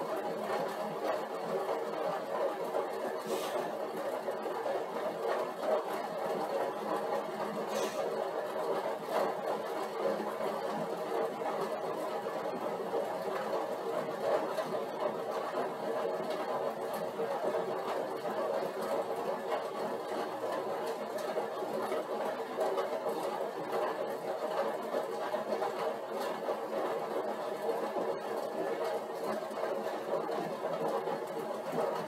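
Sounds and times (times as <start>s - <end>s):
exercise bike whirring: 0.0s - 32.0s.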